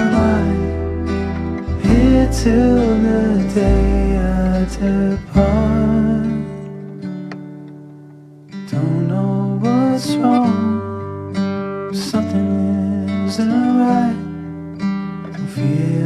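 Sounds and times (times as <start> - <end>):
song with strummed acoustic guitar: 0.0 - 16.0.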